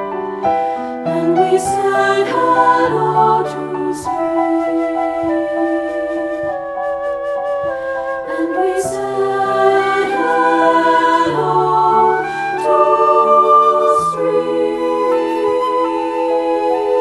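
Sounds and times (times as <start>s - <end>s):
piano accompaniment: 0.0s - 17.0s
treble choir singing: 0.8s - 6.5s, 8.2s - 17.0s.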